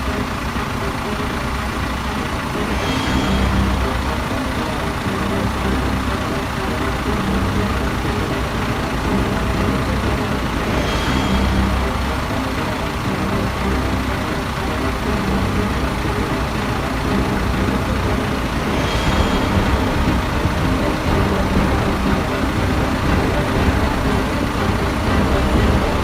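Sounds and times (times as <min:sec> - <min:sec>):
large engine running steadily: 0:00.0 - 0:26.0.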